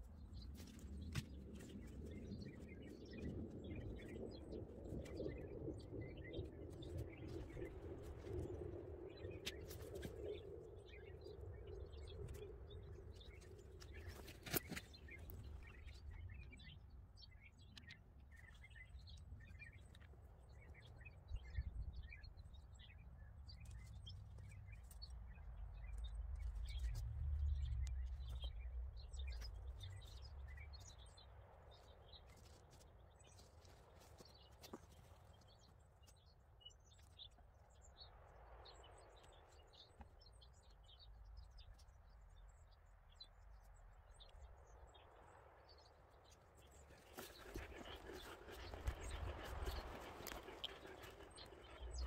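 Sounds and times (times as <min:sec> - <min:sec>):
small birds chirping and singing: 0:00.0 - 0:52.0.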